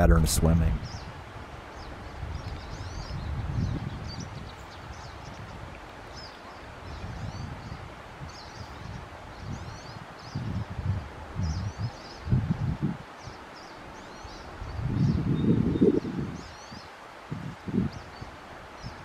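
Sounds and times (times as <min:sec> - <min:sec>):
small birds chirping: 0:00.7 - 0:17.0, 0:17.7 - 0:19.0.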